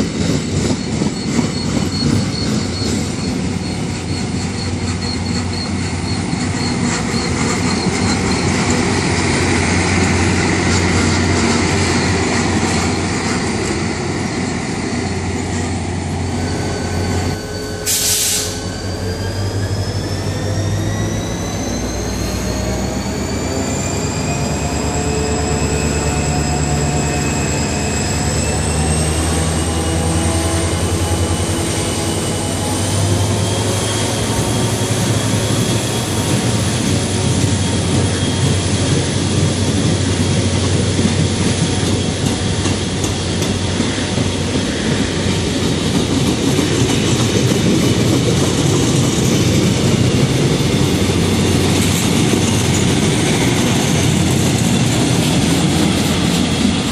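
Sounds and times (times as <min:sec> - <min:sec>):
train wheels clattering on rails: 0:00.0 - 0:56.9
train motor whine: 0:00.4 - 0:56.9.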